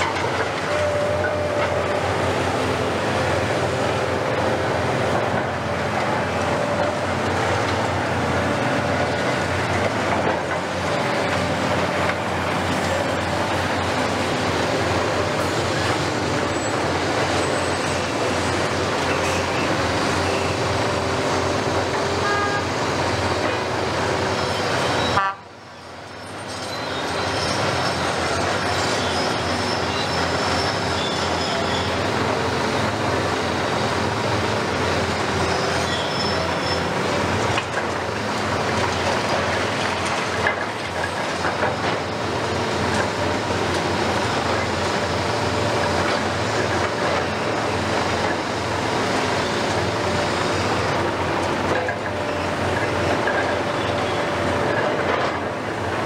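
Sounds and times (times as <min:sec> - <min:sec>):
excavator diesel engines: 0:00.0 - 0:56.0.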